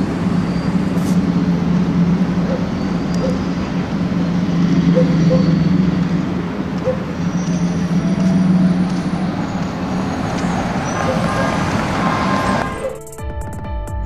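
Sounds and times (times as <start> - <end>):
low engine hum: 0.0 - 13.0
traffic rumble: 0.0 - 13.2.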